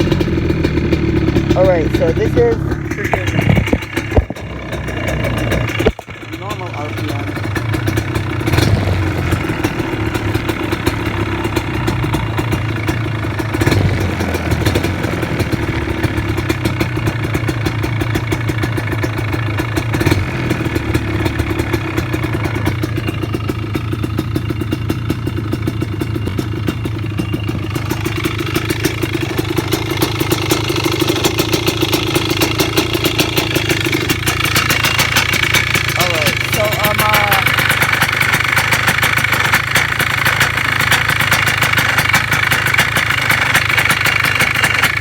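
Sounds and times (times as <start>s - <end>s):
four-wheeler engine running: 0.0s - 45.0s.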